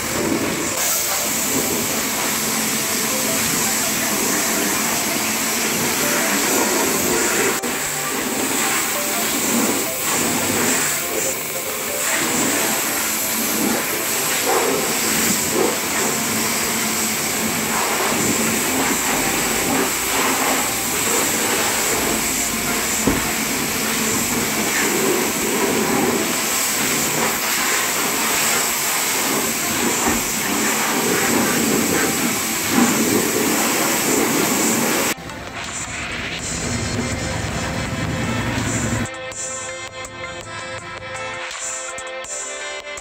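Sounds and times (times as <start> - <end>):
pressure washer spraying car: 0.0 - 39.1.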